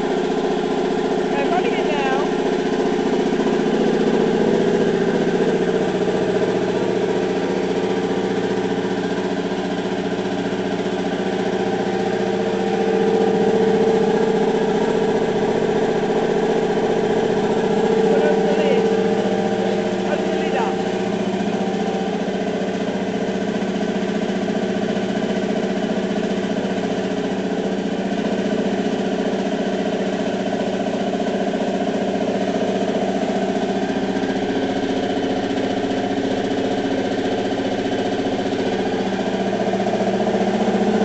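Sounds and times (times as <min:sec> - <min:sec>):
machine running with mechanical hum: 0:00.0 - 0:41.0.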